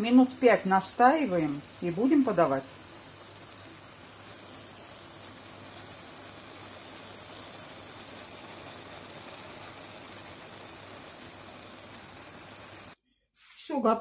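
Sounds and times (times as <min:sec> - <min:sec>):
food simmering and sizzling: 0:00.0 - 0:13.0.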